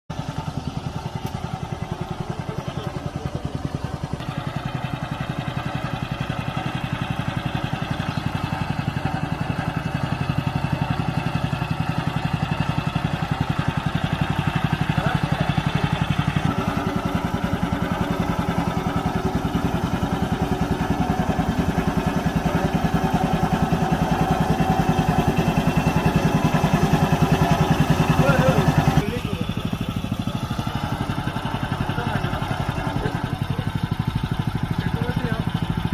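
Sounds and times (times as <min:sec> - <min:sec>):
small engine chugging: 0:00.1 - 0:35.9.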